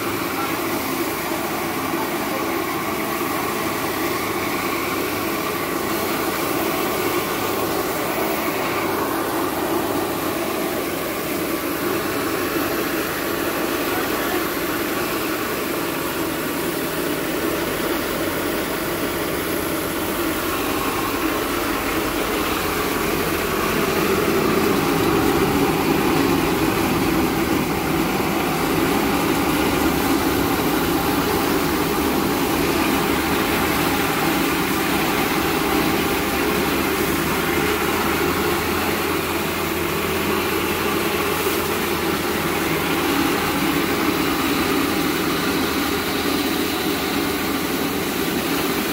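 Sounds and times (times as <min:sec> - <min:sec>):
rice milling machine humming: 0:00.0 - 0:48.9.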